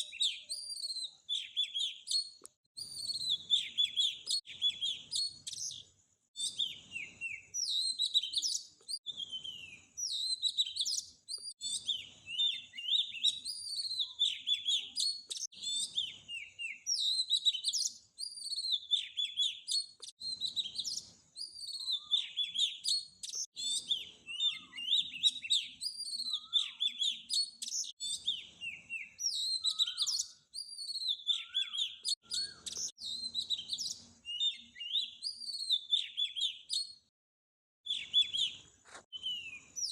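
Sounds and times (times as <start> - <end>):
small songbirds chirping: 0.0 - 37.1, 37.8 - 39.9.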